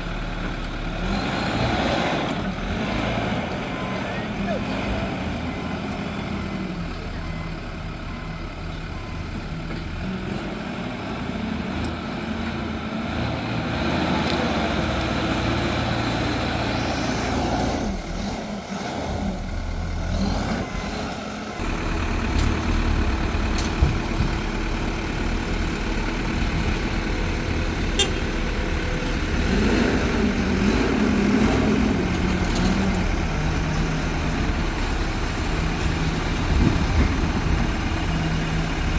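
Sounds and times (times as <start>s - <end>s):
diesel engines of heavy machinery: 0.0s - 38.9s.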